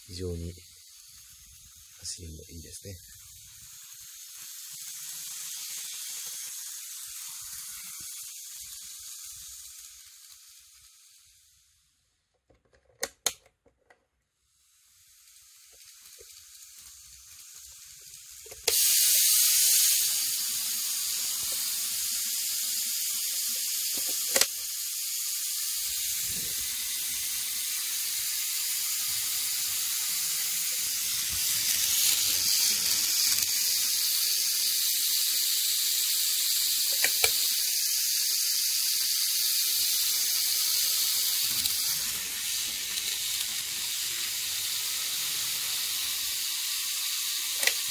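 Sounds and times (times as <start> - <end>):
model train motor hiss: 0.0 - 12.0, 14.4 - 47.9.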